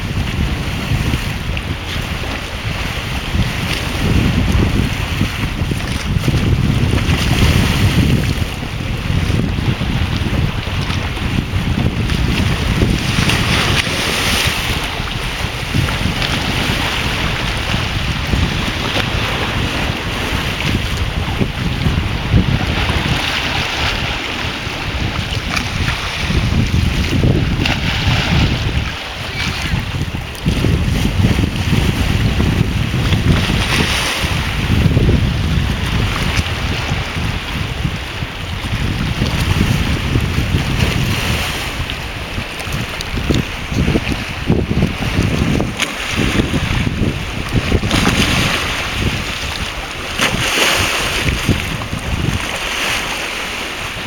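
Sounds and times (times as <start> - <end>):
waves washing onto shore: 0.0 - 54.0
wind buffeting microphone: 0.0 - 54.0.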